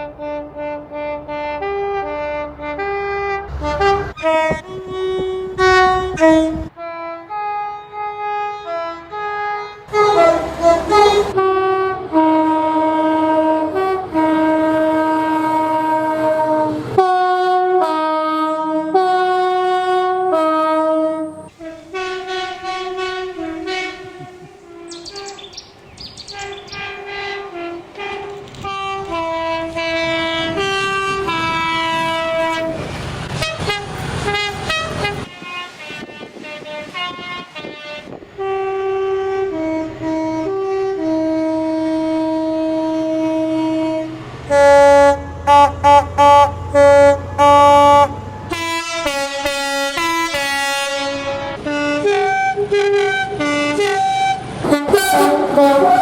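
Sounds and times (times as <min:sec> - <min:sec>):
multi-chime train horn blasts: 0:00.0 - 0:25.4, 0:26.3 - 0:32.8, 0:33.4 - 0:56.0.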